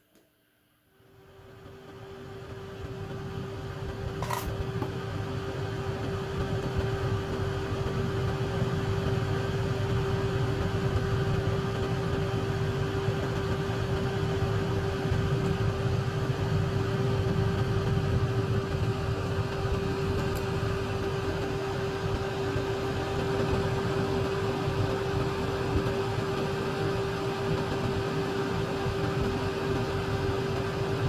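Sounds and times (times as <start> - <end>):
electric fan humming: 1.8 - 31.0.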